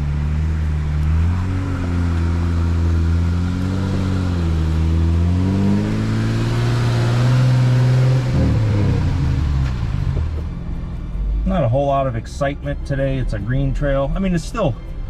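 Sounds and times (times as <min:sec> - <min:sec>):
car engine revving at low speed: 0:00.0 - 0:12.6.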